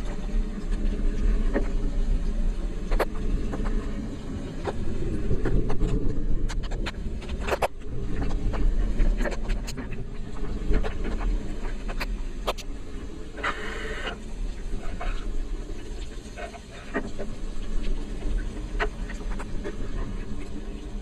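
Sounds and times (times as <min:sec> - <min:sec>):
raindrops ticking on microphone cover: 0:00.0 - 0:21.0.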